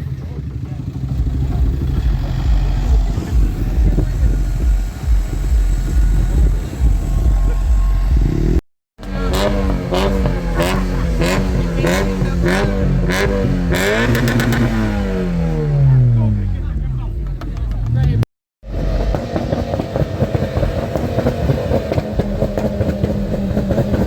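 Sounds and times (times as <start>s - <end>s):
car engine revving: 0.0s - 24.0s
exhaust pops and bangs: 0.3s - 15.7s, 16.6s - 24.0s.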